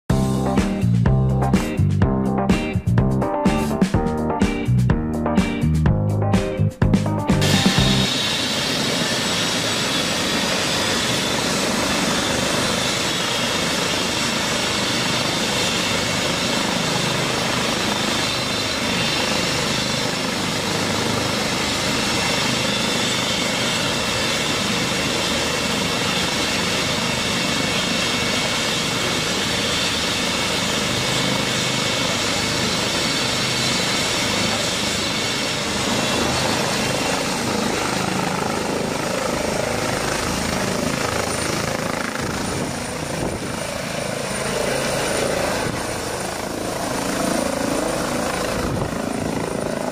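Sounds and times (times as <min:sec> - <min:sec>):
helicopter rotor and turbine: 0:00.1 - 0:49.9.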